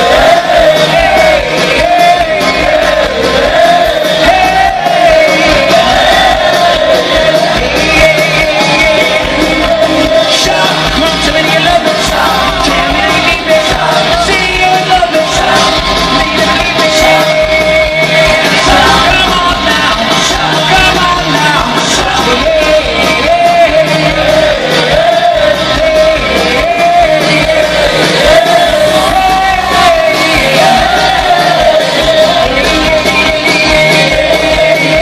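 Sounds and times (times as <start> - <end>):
drums: 0.0 - 35.0
electric guitars: 0.0 - 35.0
person singing: 0.0 - 35.0.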